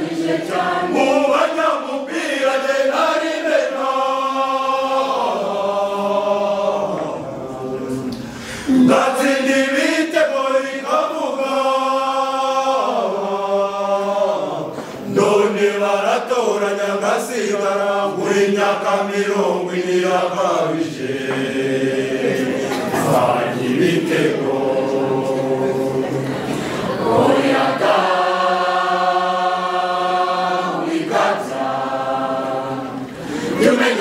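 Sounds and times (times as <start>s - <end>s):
mixed choir singing: 0.0s - 34.0s.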